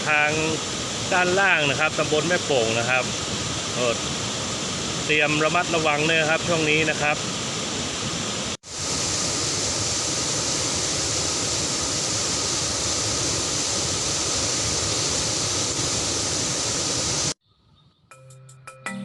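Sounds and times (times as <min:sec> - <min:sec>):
stream water rushing: 0:00.0 - 0:17.4.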